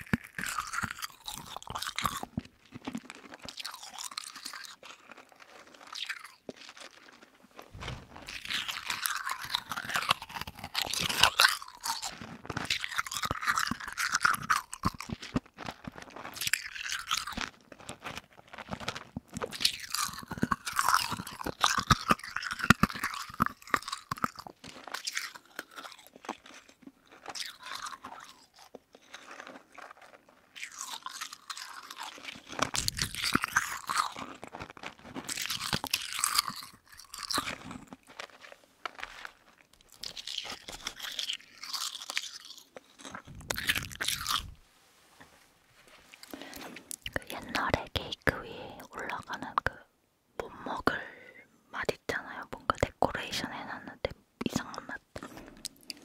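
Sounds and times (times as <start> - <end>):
chewing crunchy candy: 0.0 - 44.6, 45.8 - 56.0.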